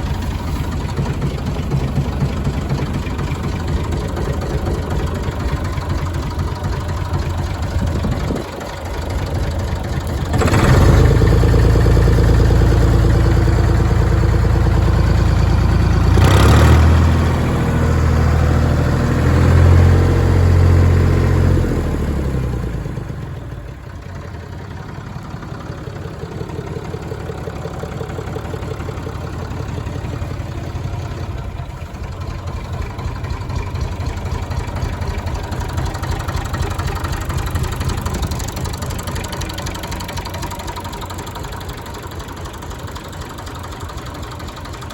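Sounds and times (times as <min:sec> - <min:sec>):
tractor engine idling and revving: 0:00.0 - 0:44.9.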